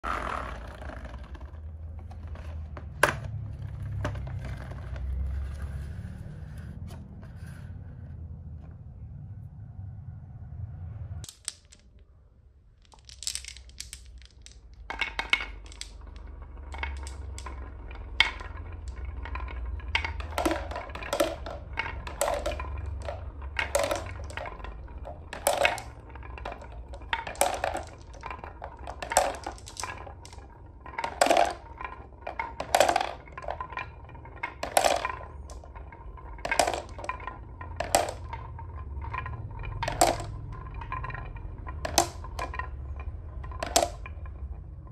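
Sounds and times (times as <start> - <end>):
marbles clacking into plastic truck: 0.0 - 6.6, 11.2 - 44.9
marbles rolling on wooden track: 0.0 - 7.7, 11.2 - 44.9.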